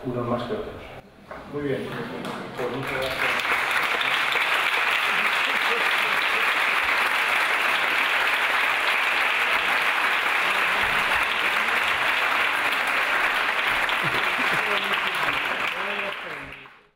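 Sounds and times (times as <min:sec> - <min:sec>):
audience applauding: 0:01.9 - 0:16.9.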